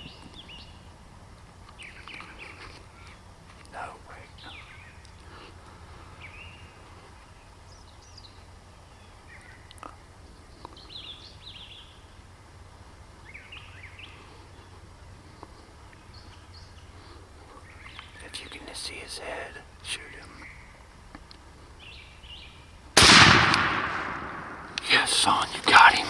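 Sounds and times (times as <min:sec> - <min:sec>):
small songbirds chirping: 0:00.0 - 0:26.0
low background hum: 0:00.1 - 0:26.0.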